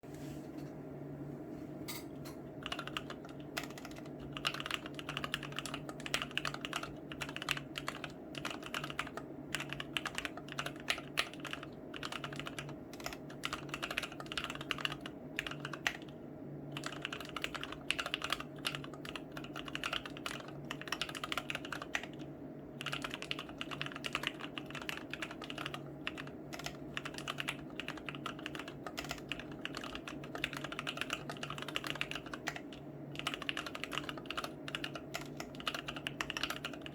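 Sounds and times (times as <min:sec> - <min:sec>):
steady low hum: 0:00.0 - 0:36.9
mechanical keyboard typing: 0:02.6 - 0:16.1, 0:16.7 - 0:36.9.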